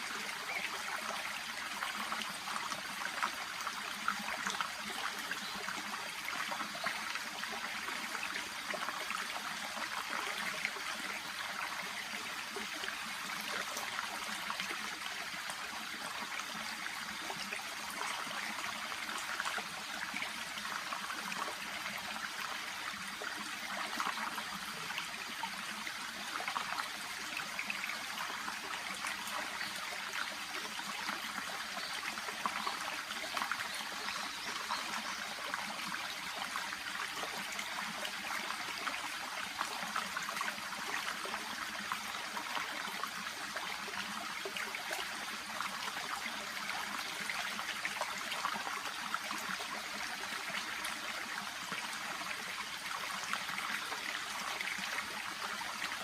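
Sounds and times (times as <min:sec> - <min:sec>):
brook babbling: 0:00.0 - 0:56.0.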